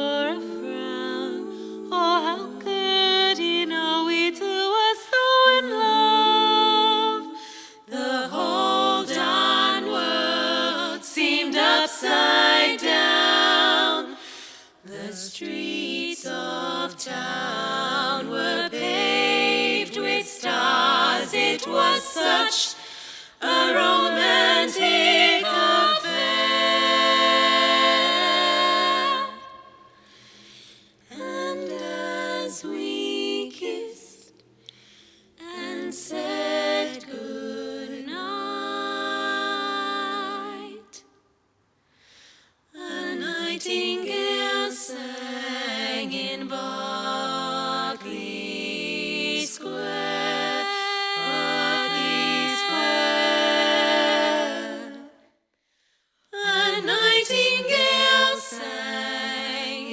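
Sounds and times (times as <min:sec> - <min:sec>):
voices singing a cappella harmony: 0:00.0 - 0:41.3, 0:41.9 - 0:59.9.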